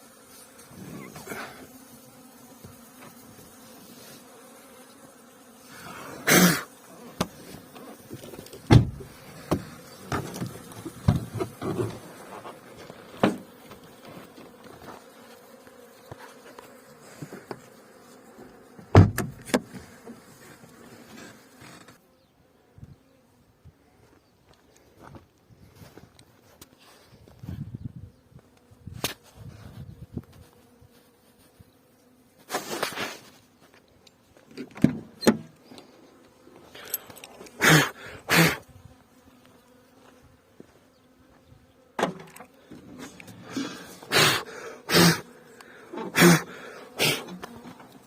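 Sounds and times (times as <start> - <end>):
honeybees buzzing: 0.0 - 48.0.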